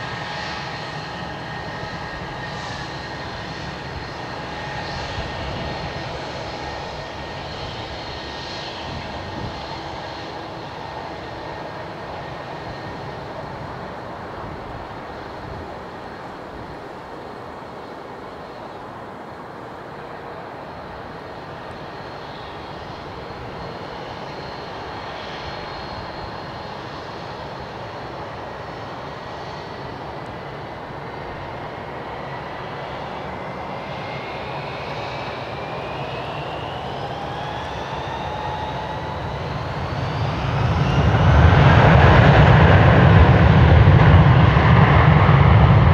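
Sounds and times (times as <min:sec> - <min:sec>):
high engine whine: 0:00.0 - 0:45.9
jet engines running: 0:00.0 - 0:45.9.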